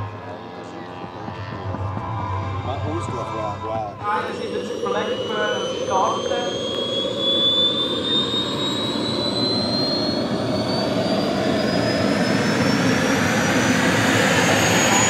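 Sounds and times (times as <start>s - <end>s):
jet turbine whine: 0.0s - 15.0s.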